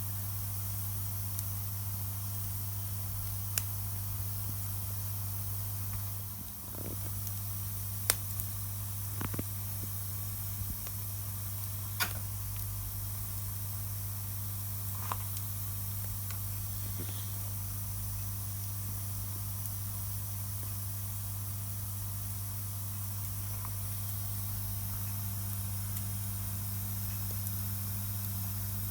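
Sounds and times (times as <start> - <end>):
campfire hissing: 0.0 - 28.9
fire crackling pops: 1.2 - 28.9.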